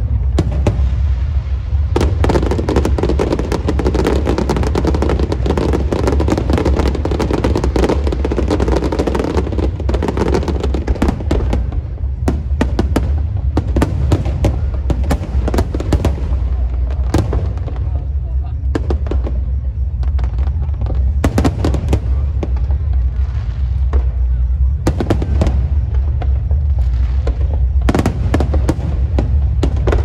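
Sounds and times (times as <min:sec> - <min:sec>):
firecrackers crackling: 0:00.0 - 0:30.0
firework bangs: 0:00.0 - 0:30.0.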